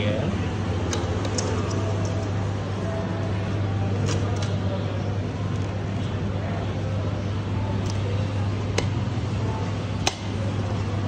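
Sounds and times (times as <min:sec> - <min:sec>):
faint distant voices: 0:00.0 - 0:11.0
steady low hum: 0:00.0 - 0:11.0.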